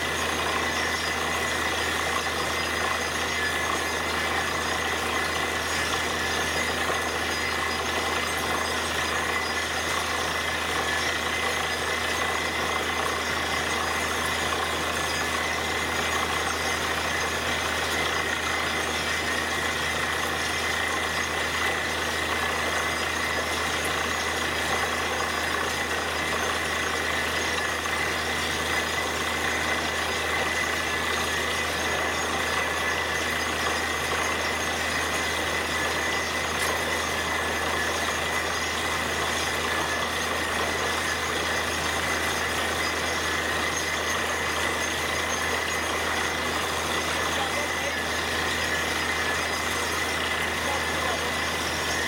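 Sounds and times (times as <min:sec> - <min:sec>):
drilling rig running: 0:00.0 - 0:52.0.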